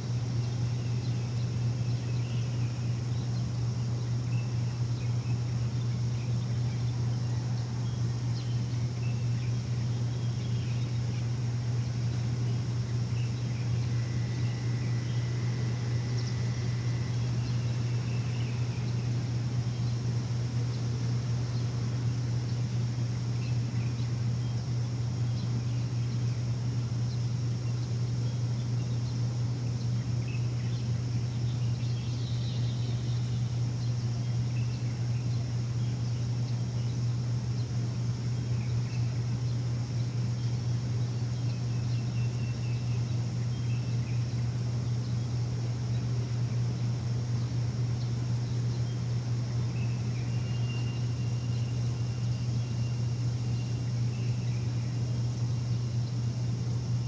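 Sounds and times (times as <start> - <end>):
faint bird chirps: 0.0 - 57.0
low machine hum: 0.0 - 57.0.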